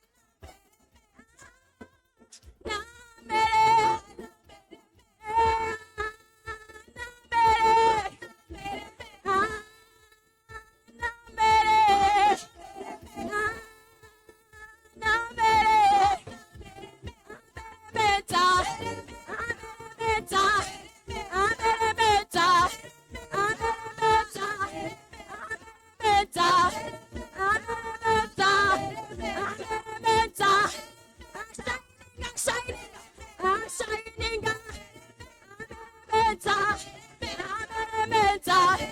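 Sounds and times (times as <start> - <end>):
person singing a praise song: 2.7 - 9.8, 11.0 - 13.8, 15.0 - 38.9.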